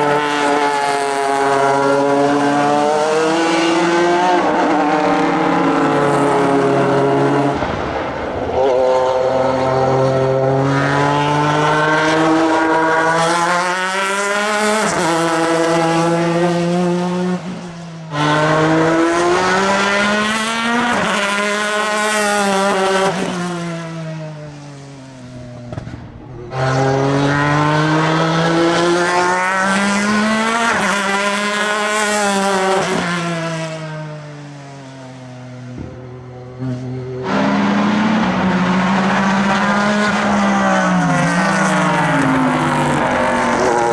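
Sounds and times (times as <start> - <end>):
race car engine at full speed: 0.0 - 43.9.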